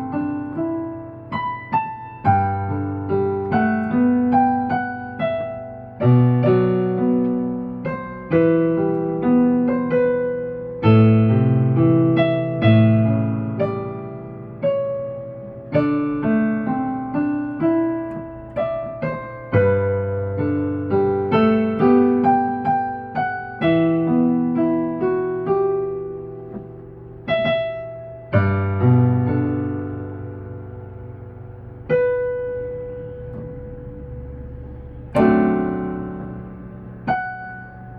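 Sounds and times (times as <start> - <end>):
slow piano ballad: 0.0 - 37.9.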